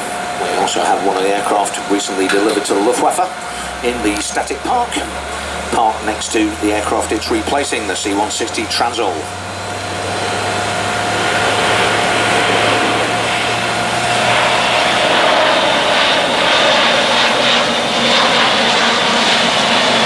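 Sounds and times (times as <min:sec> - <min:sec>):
propeller aircraft droning: 0:00.0 - 0:20.0.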